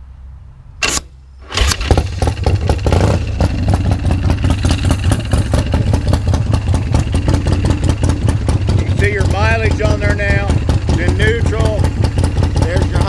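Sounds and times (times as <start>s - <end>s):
motorcycle engine starting and idling: 0.8s - 13.0s.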